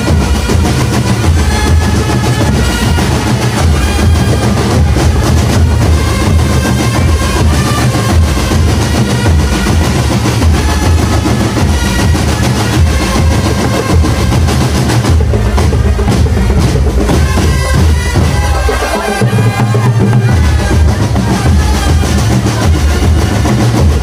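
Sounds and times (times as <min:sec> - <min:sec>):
marching drum band playing: 0:00.0 - 0:24.0.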